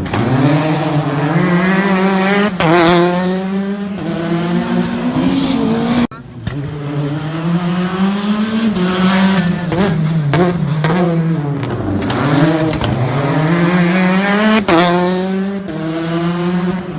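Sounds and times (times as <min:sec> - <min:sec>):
rally car engine driven hard: 0:00.0 - 0:16.9.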